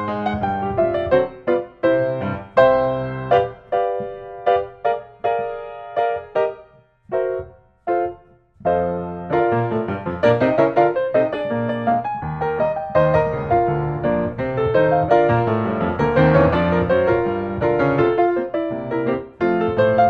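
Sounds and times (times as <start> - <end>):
lively piano music: 0.0 - 20.0.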